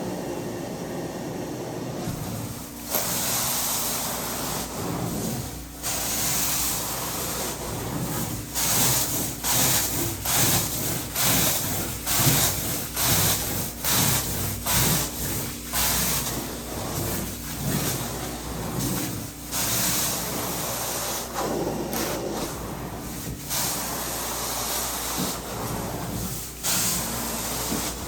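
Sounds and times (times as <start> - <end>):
carpet cleaner hissing strokes: 0.0 - 28.0.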